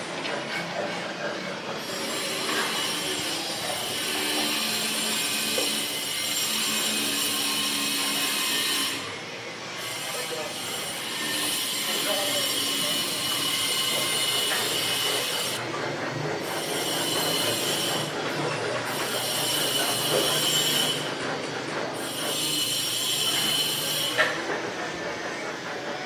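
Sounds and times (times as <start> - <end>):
high harsh machine noise: 0.0 - 26.0.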